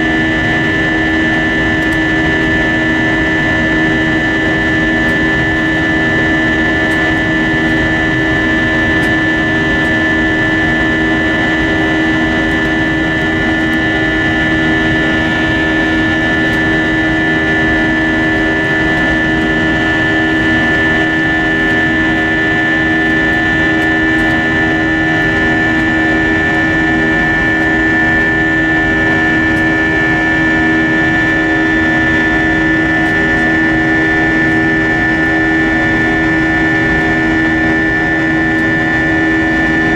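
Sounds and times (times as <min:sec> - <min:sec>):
airplane cabin engine drone: 0:00.0 - 0:39.9
steady whining tones: 0:00.0 - 0:39.9.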